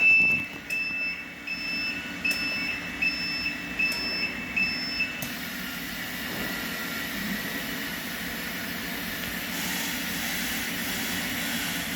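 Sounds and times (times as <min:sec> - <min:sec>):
vacuum pump humming and hissing: 0:00.0 - 0:11.9.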